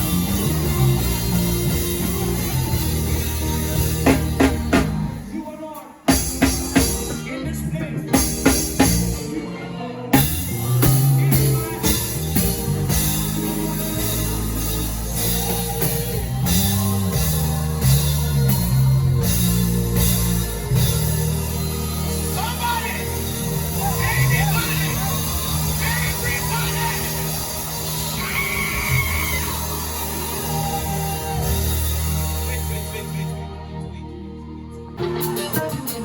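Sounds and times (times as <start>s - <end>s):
live worship band playing: 0.0s - 36.0s.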